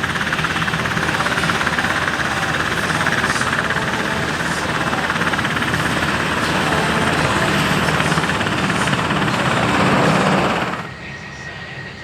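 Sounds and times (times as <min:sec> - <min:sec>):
pulsing aircraft engine din: 0:00.0 - 0:12.0.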